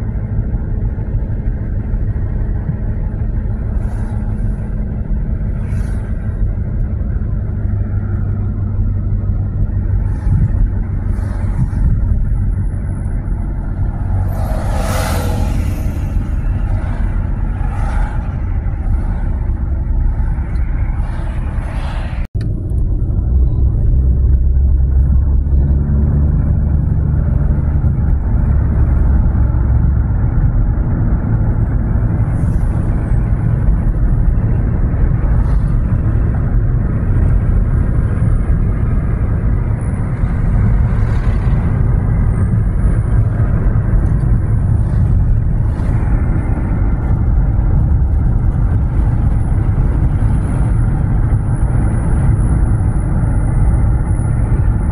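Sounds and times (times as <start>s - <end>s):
car driving on road: 0.0s - 54.9s.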